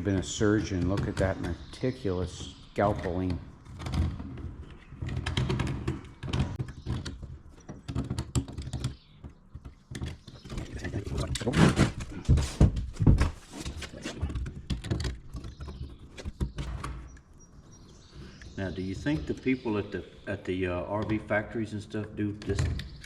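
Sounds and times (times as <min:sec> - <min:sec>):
hands and tools knocking and rubbing: 0:00.0 - 0:19.7.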